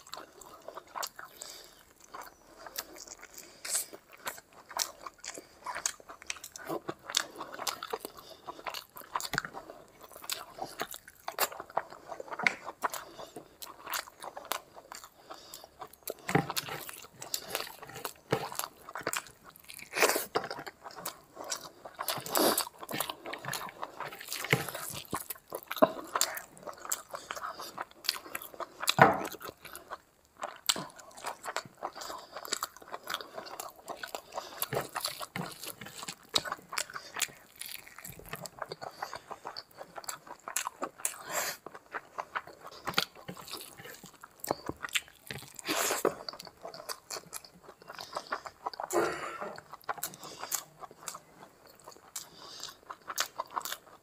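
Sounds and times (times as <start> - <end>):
chewing with mouth clicks: 0.0 - 54.0.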